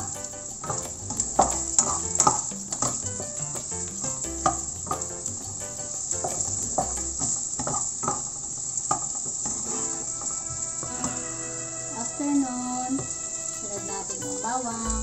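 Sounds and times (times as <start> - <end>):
onion sizzling in oil: 0.0 - 15.0.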